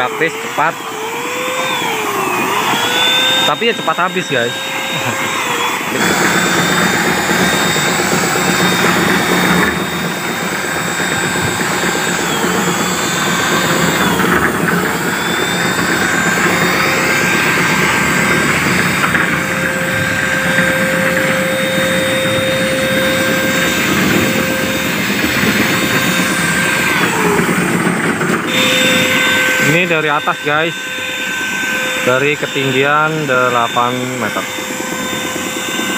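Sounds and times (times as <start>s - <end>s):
electric paint sprayer motor whine: 0.0s - 35.9s.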